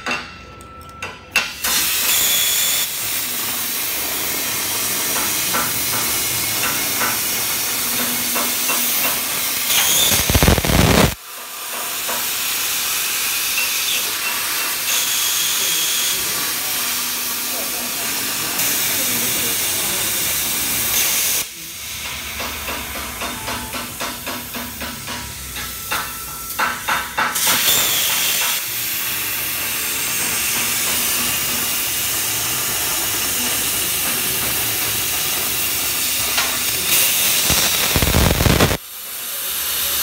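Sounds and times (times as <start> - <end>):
plasma cutter hissing: 1.4 - 40.0.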